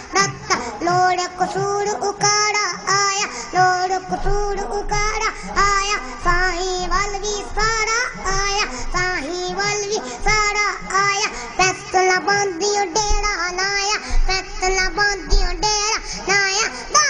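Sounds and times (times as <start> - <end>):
boy singing into microphone: 0.0 - 17.0.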